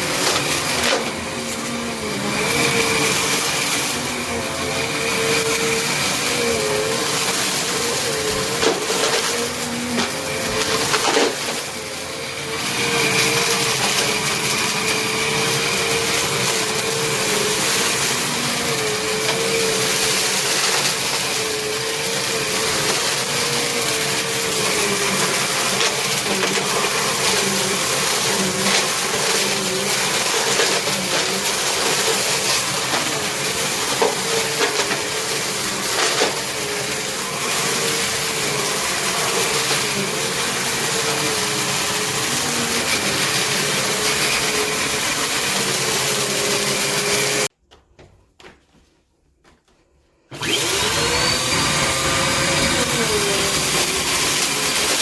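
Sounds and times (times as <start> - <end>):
vacuum cleaner motor whine: 0.0 - 47.5, 50.3 - 55.0.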